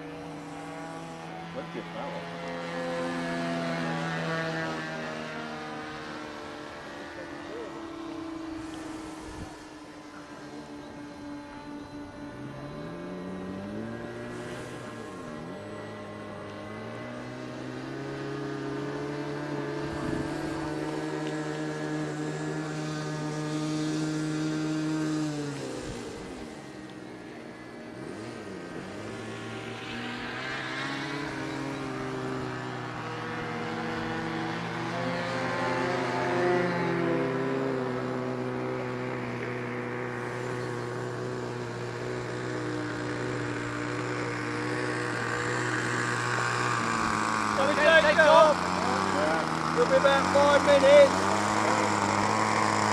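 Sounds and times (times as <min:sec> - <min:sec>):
model aircraft engine buzzing: 0:00.0 - 0:52.9.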